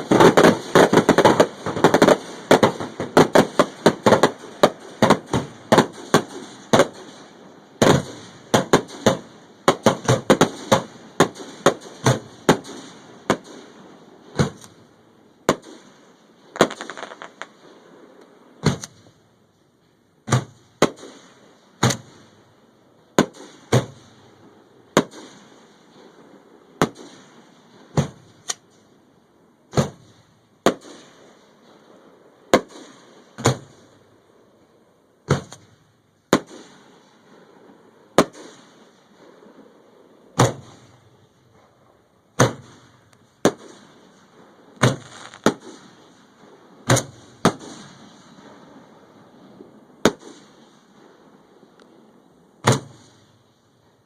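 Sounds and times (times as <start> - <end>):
fireworks sharp bangs: 0.0 - 19.2, 20.2 - 22.5, 23.1 - 28.8, 29.7 - 34.1, 35.2 - 54.0.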